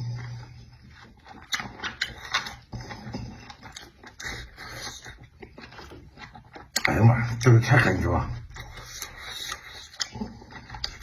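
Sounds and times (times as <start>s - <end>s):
mouth chewing food: 0.0s - 11.0s.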